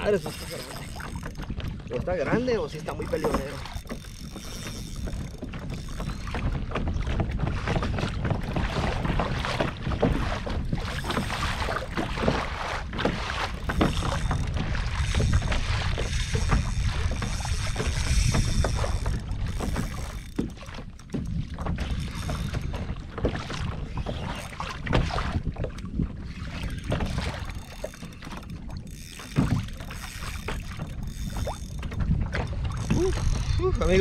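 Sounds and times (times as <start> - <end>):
knocks and clicks from kayak: 0.0 - 34.0
water against plastic kayak: 0.0 - 34.0
wind buffeting microphone: 0.0 - 34.0.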